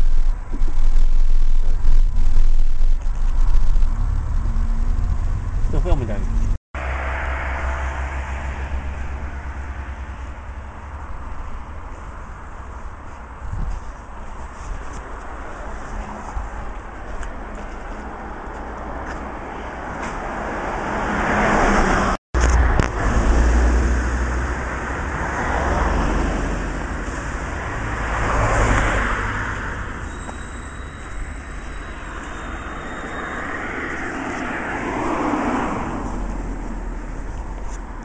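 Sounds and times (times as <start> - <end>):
cars passing by: 3.0 - 38.0.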